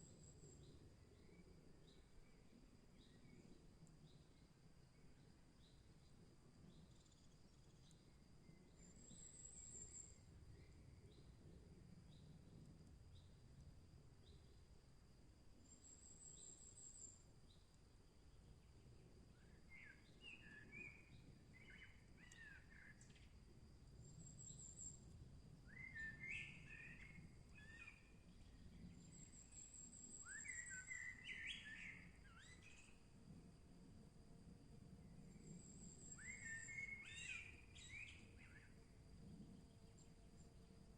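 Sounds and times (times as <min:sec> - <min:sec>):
low steady background hiss: 0:00.0 - 0:40.9.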